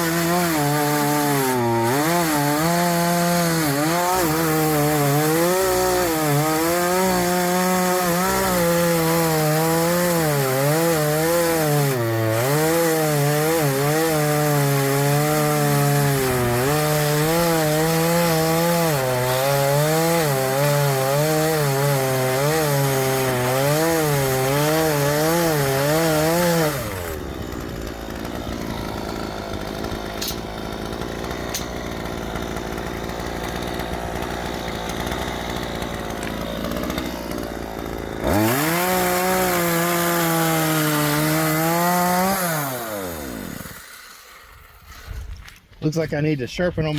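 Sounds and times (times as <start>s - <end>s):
chainsaw cutting wood: 0.0s - 46.2s.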